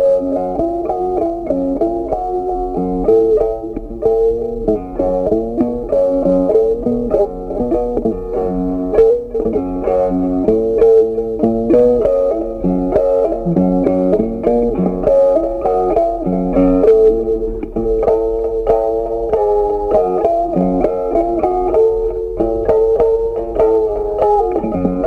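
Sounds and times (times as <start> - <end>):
plucked guitar melody: 0.0 - 25.0.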